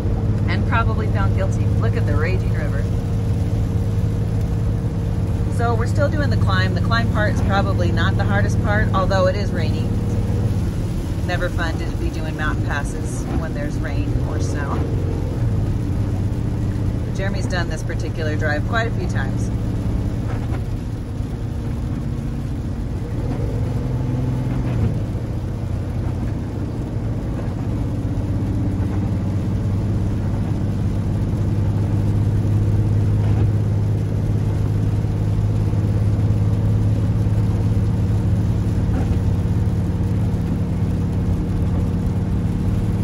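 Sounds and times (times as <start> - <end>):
diesel engine drone: 0.0 - 43.0
road noise on wet pavement: 0.0 - 43.0.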